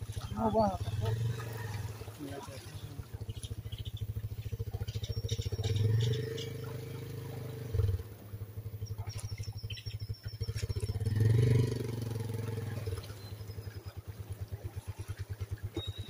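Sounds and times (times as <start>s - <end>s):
small motorcycle engine: 0.0s - 16.0s.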